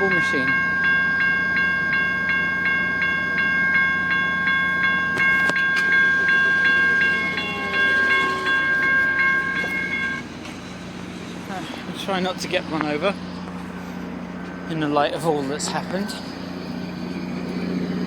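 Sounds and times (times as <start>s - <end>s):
railroad crossing bell ringing: 0.0s - 11.0s, 11.9s - 18.0s.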